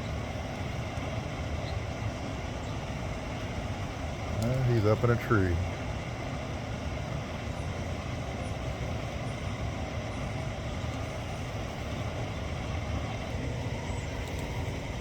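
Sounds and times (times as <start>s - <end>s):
low rumble of distant traffic: 0.0s - 15.0s.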